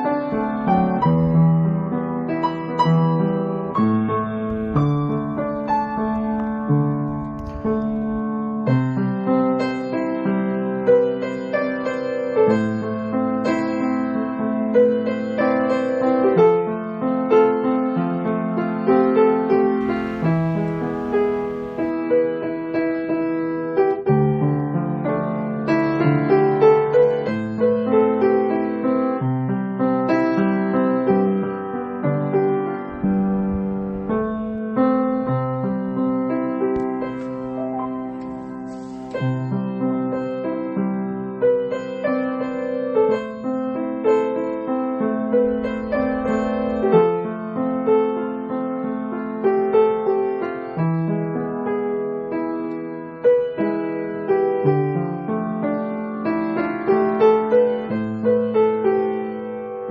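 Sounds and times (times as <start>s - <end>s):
gentle solo piano: 0.0s - 59.9s.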